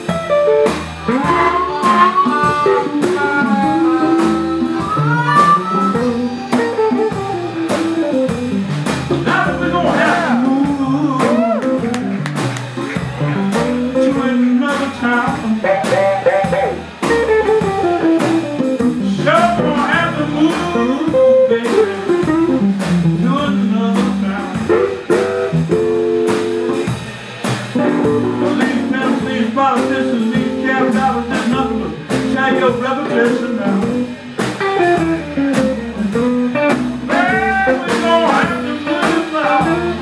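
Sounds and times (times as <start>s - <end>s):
electric guitar lead melody: 0.0s - 23.9s, 24.5s - 27.1s, 27.7s - 40.0s
drum kit beat: 0.0s - 40.0s
upright bass walking: 0.0s - 40.0s.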